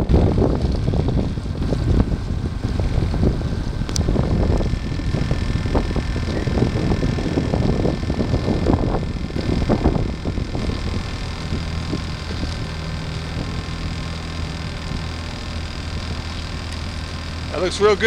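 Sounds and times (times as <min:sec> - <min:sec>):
motorboat engine hum: 0:00.0 - 0:18.0
wind noise on microphone: 0:00.0 - 0:18.0.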